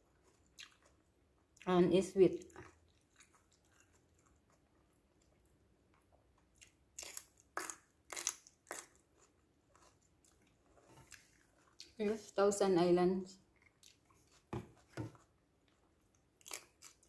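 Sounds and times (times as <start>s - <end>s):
crunchy chewing: 0.0s - 1.7s, 2.4s - 12.0s, 13.5s - 17.0s.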